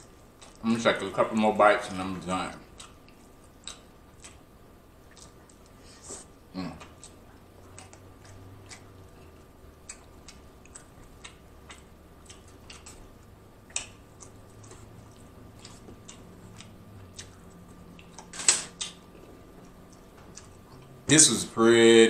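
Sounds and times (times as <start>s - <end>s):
wet chewing clicks and smacks: 0.0s - 0.7s, 2.6s - 5.8s, 6.8s - 21.1s.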